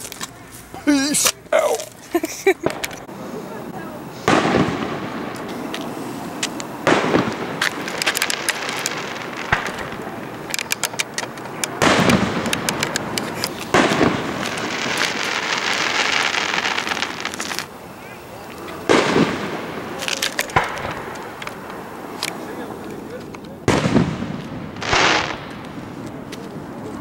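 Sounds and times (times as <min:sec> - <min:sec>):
fireworks crackling: 0:00.0 - 0:27.0
fireworks booming: 0:00.9 - 0:27.0.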